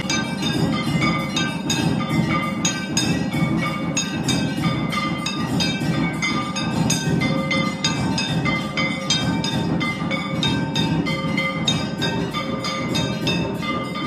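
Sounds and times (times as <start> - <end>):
cymbals struck in rhythm: 0.0 - 14.0
drumming: 0.0 - 14.0
metal bells ringing: 0.0 - 14.0.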